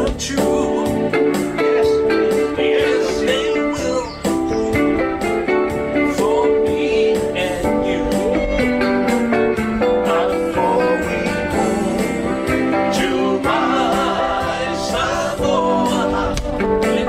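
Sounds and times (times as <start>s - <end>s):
person singing: 0.0s - 4.7s, 5.7s - 17.0s
strummed guitars: 0.0s - 17.0s.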